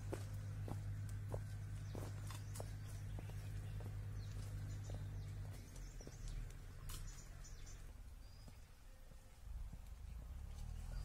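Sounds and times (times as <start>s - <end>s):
footsteps on stony trail: 0.0s - 10.7s
low steady rumble: 0.0s - 11.0s.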